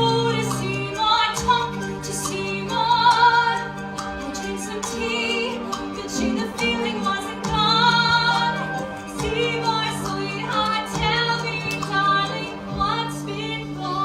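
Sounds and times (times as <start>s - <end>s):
pit orchestra accompaniment: 0.0s - 14.0s
woman singing with vibrato: 0.0s - 14.0s.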